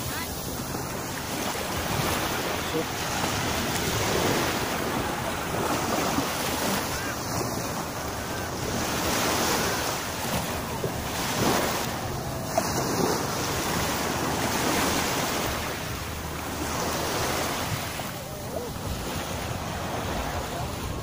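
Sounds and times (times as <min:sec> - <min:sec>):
small waves washing on shore: 0:00.0 - 0:21.0.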